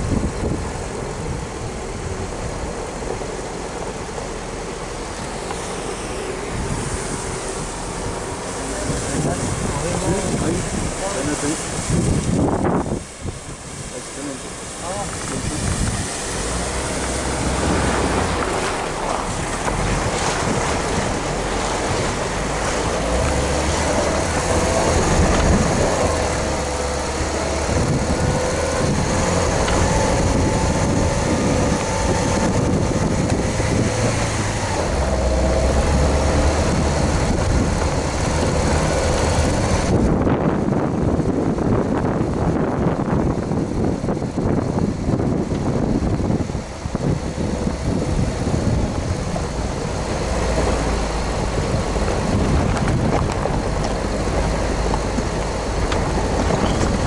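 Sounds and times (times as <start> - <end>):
car engine running: 0.0 - 57.0
wind noise on microphone: 0.0 - 57.0.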